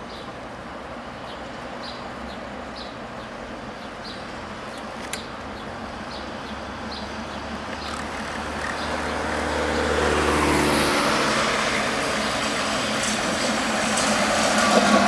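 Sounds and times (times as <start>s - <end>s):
road traffic passing: 0.0s - 15.0s
tram running on track: 0.0s - 15.0s.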